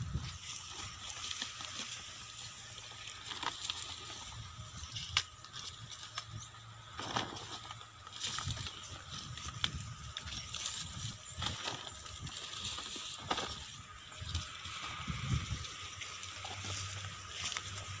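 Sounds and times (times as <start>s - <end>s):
plastic sack and leaves rustling: 0.0s - 18.0s.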